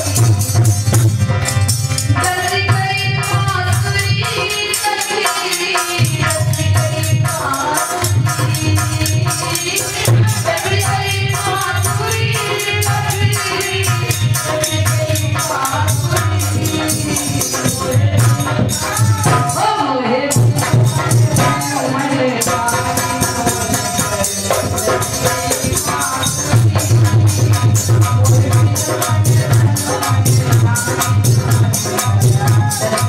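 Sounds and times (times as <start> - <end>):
fast rattling percussion: 0.0 - 33.0
steady drum beat: 0.0 - 33.0
woman singing: 2.1 - 33.0.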